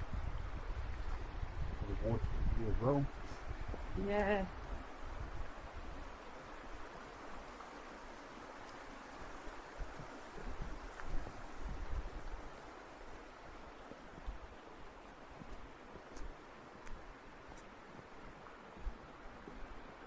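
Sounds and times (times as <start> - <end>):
wind buffeting microphone: 0.0 - 17.1.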